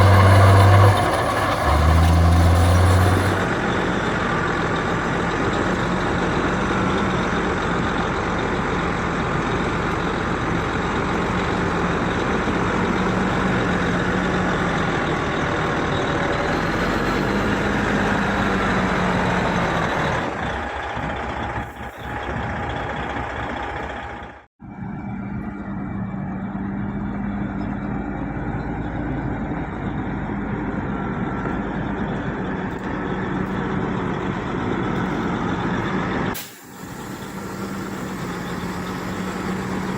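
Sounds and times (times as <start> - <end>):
heavy diesel machinery engine drone: 0.0 - 39.9.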